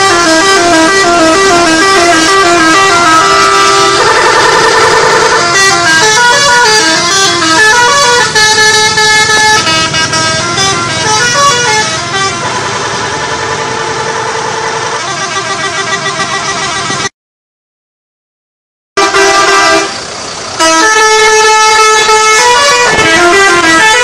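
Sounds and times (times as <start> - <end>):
multi-tone air horn tune: 0.0 - 17.1, 19.0 - 24.0.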